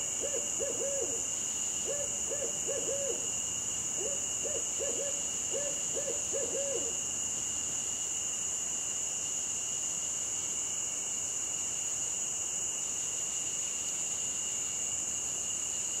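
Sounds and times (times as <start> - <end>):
insect chorus trilling: 0.0 - 16.0.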